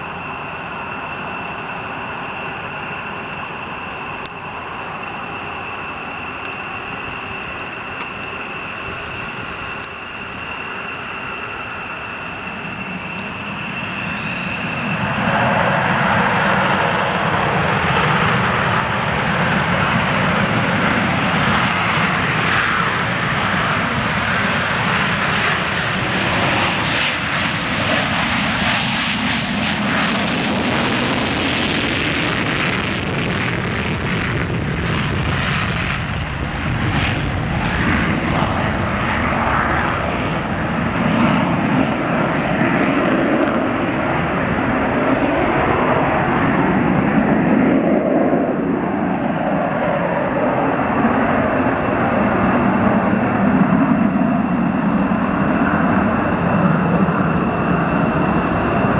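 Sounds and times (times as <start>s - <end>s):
jet engine high hiss: 0.0s - 58.9s
jet rumble: 0.0s - 58.9s.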